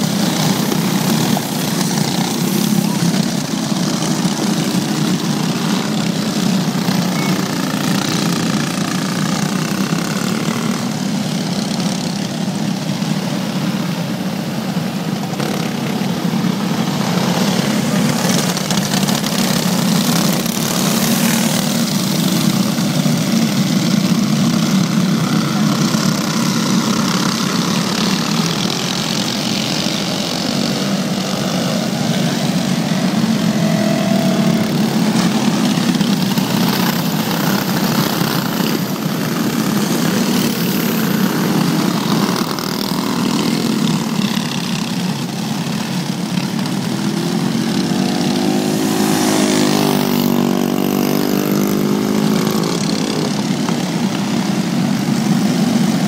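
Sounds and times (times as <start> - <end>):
kart engine passing by: 0.0 - 56.0
racing kart engines: 0.0 - 56.0.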